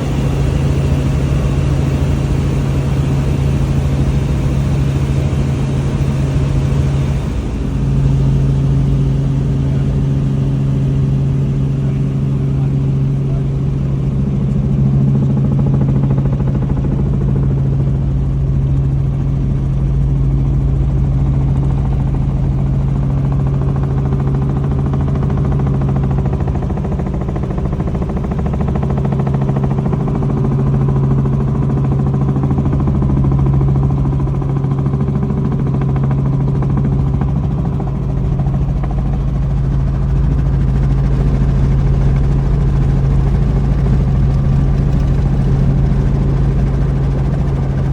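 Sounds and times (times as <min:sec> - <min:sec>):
helicopter rotor drone: 0:00.0 - 0:47.9.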